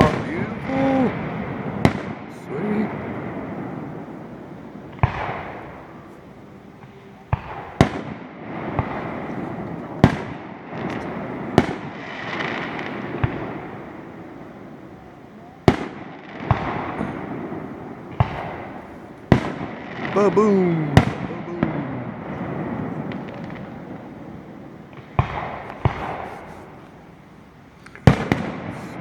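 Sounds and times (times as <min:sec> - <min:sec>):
fireworks bangs with echo: 0:00.0 - 0:29.0
fireworks crackling: 0:00.0 - 0:29.0.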